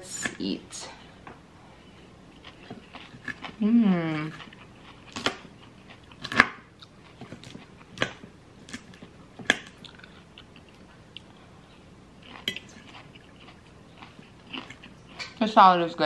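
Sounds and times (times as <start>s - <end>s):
crunchy chewing of salad: 1.7s - 15.5s.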